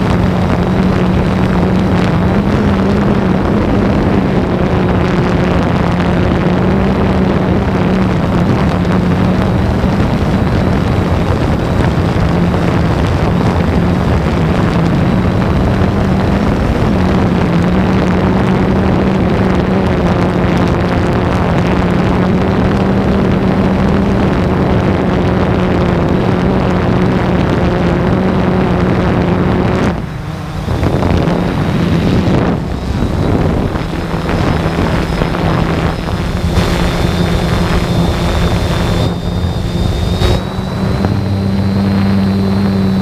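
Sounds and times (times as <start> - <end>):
drone propellers humming: 0.0 - 43.0
wind on microphone: 0.0 - 43.0.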